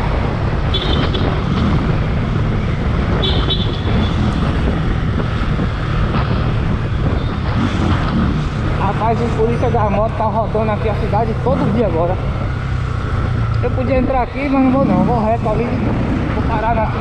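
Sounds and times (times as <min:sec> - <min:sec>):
wind buffeting microphone: 0:00.0 - 0:17.0
motorcycle engine running: 0:00.7 - 0:17.0.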